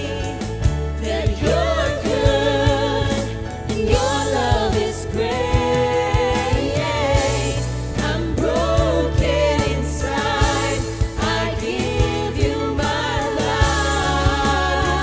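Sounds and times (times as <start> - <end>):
people singing: 0.0 - 15.0
worship band playing: 0.0 - 15.0.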